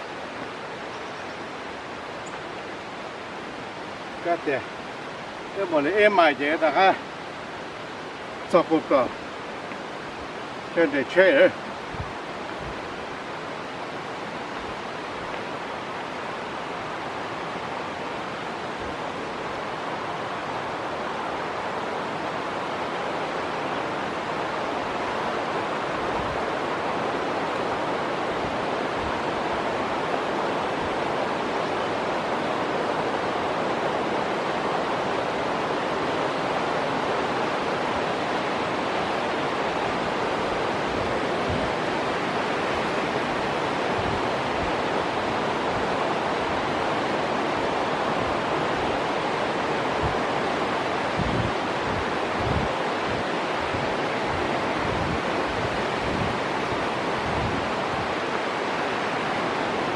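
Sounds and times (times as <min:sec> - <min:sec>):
fast river rushing: 0:00.0 - 0:59.9.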